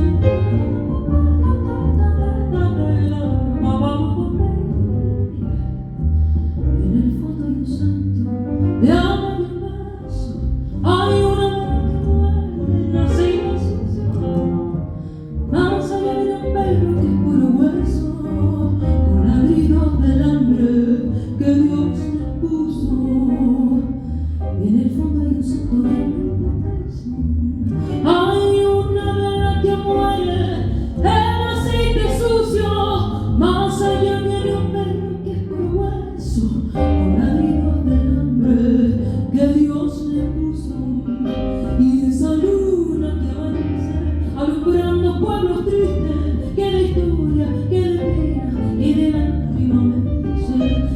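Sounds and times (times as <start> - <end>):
woman singing: 0.0 - 5.7, 6.7 - 50.9.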